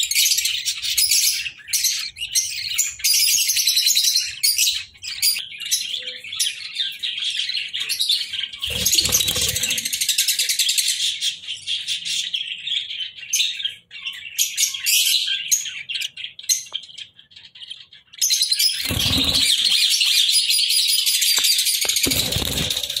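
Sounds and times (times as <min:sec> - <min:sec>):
budgerigars chirping: 0:00.2 - 0:20.4.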